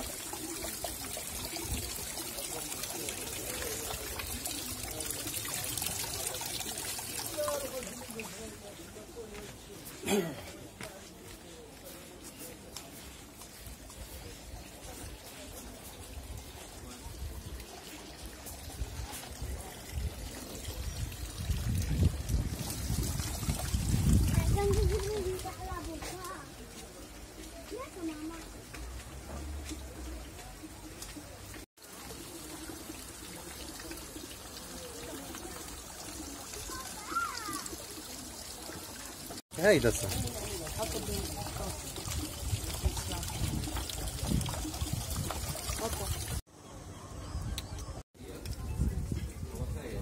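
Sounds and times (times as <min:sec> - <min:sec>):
fountain water trickling: 0:00.0 - 0:46.5.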